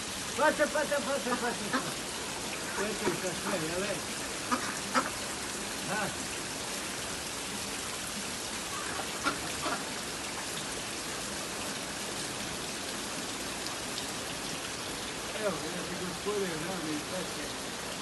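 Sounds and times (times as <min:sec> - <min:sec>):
water splashing into pond: 0:00.0 - 0:18.0.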